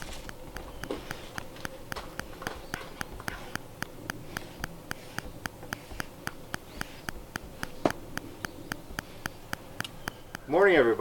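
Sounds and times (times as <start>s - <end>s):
steady regular ticking: 0.0s - 11.0s.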